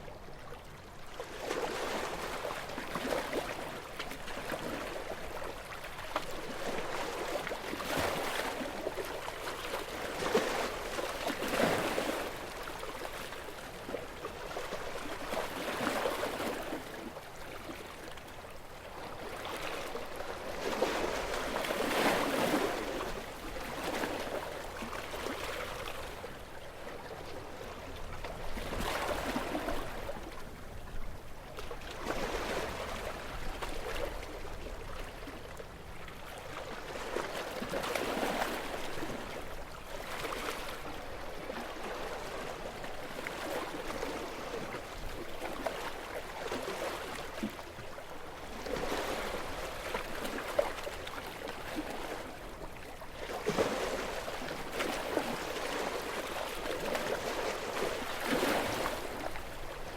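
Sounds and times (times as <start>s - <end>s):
gentle sea waves washing: 0.0s - 59.9s.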